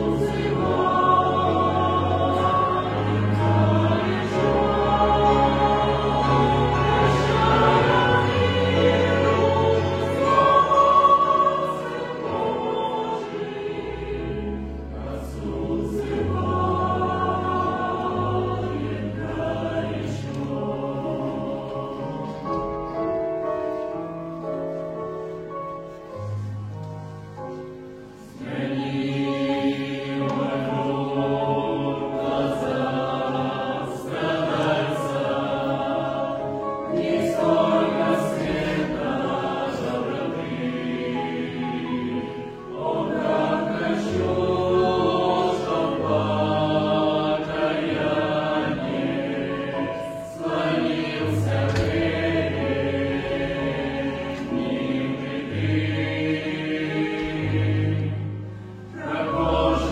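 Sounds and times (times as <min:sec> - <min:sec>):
choir singing sustained chords: 0:00.0 - 0:24.8, 0:27.5 - 0:59.9.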